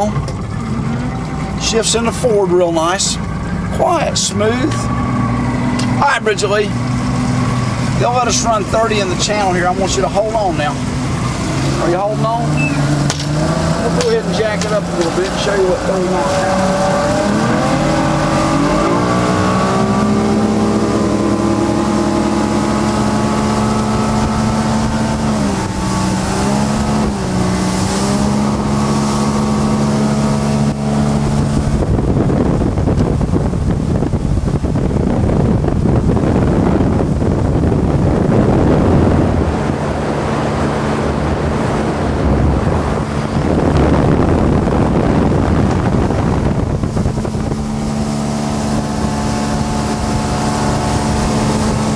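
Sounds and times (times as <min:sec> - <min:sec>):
outboard motor running: 0:00.0 - 0:51.9
rushing water: 0:00.0 - 0:51.9
wind on microphone: 0:00.0 - 0:51.9.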